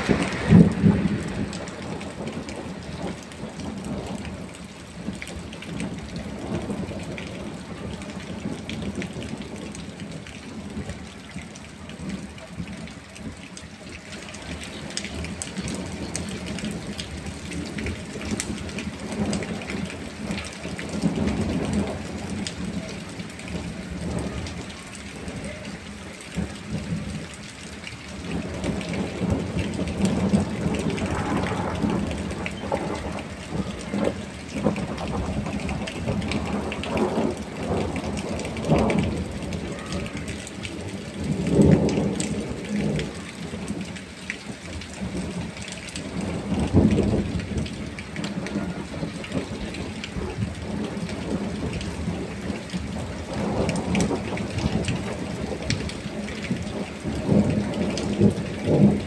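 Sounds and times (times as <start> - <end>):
rolling thunder: 0.0 - 12.4, 14.4 - 43.9, 44.5 - 59.0
heavy rain falling: 0.0 - 59.0.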